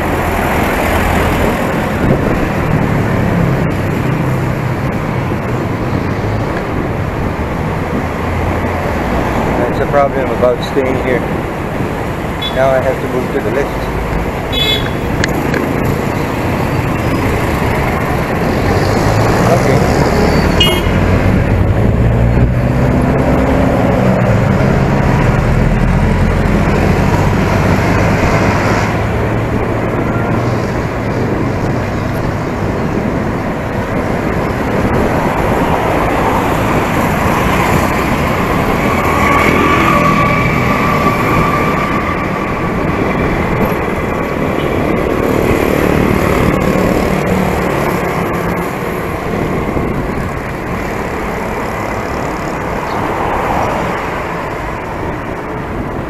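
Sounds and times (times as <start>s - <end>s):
road traffic: 0.0s - 56.0s.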